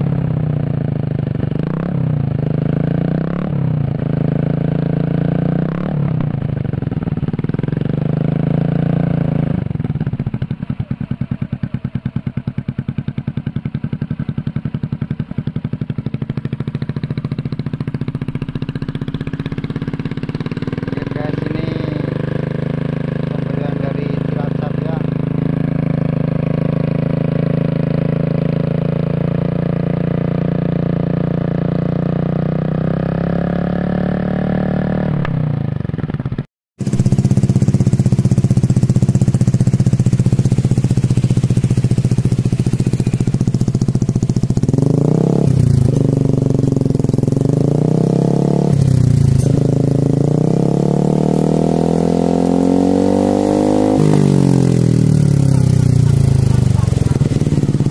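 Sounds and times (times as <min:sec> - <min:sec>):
scooter engine idling: 0:00.0 - 0:04.8, 0:05.8 - 0:31.8, 0:35.4 - 0:50.8, 0:51.7 - 0:57.9
scooter engine revving: 0:00.0 - 0:57.9.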